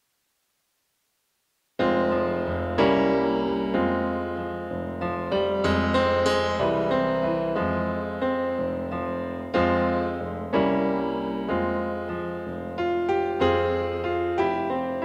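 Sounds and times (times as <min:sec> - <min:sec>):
electric piano chords: 0:01.8 - 0:15.0.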